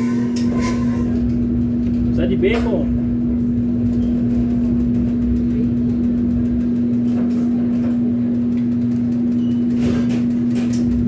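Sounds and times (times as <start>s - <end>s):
kitchen machinery humming: 0.0s - 11.0s.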